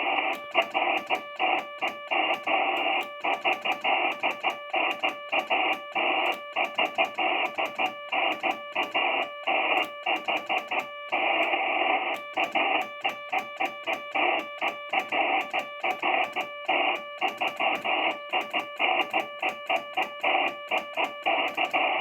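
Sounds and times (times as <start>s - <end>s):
morse code tone: 0.0s - 22.0s
radio band noise hiss: 0.0s - 22.0s.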